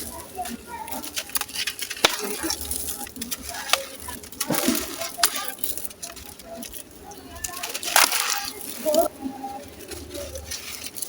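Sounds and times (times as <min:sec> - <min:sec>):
sand-cement crumbling and crunching: 0:00.0 - 0:11.0.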